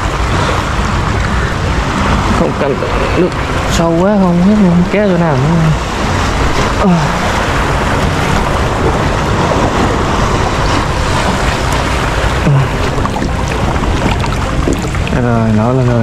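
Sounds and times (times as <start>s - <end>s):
choppy sea water sloshing: 0.0s - 16.0s.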